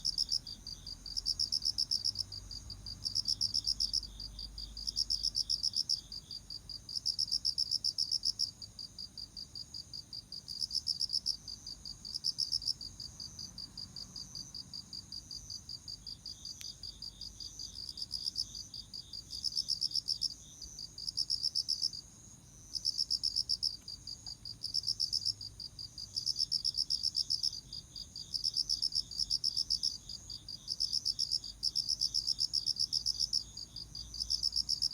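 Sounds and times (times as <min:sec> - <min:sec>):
crickets chirping: 0:00.0 - 0:34.9
faint insect chirping: 0:00.0 - 0:34.9.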